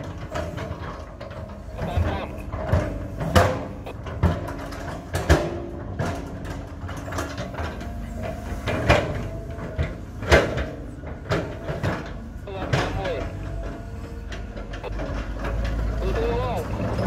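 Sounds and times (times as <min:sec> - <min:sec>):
excavator engine running: 0:00.0 - 0:17.0
sharp metal clanks and knocks: 0:00.0 - 0:17.0.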